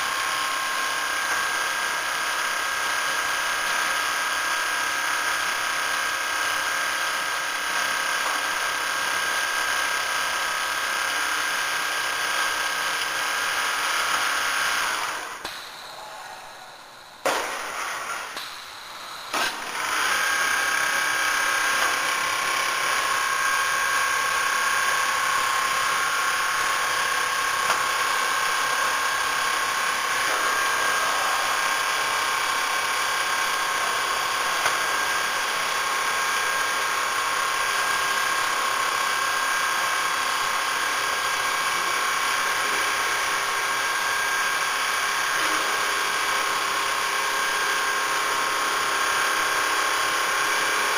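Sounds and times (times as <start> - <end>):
quilting machine whirring: 0.0 - 50.9.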